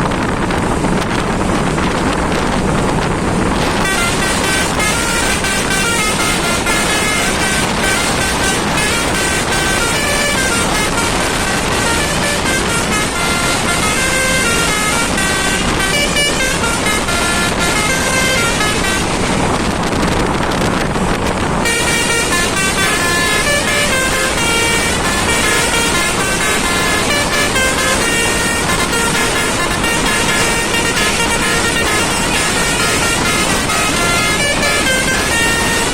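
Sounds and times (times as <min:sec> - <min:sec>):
bus horn playing a tune: 0:00.0 - 0:35.9
traffic noise: 0:00.0 - 0:35.9.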